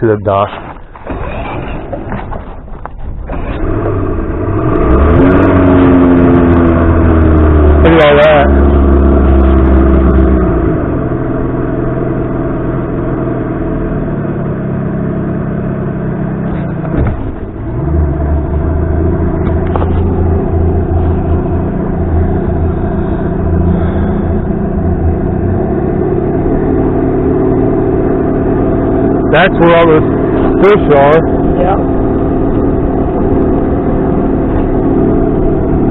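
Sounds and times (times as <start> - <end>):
outboard motor running: 0.0 - 35.9.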